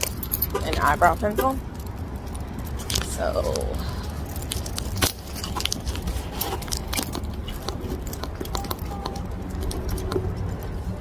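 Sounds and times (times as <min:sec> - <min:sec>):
handling clicks and rustles: 0:00.0 - 0:11.0.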